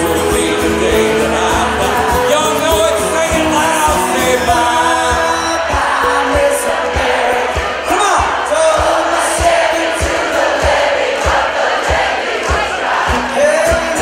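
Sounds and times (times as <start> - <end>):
acoustic guitars strumming: 0.0 - 14.0
drums: 0.0 - 14.0
lead singer singing: 0.0 - 14.0.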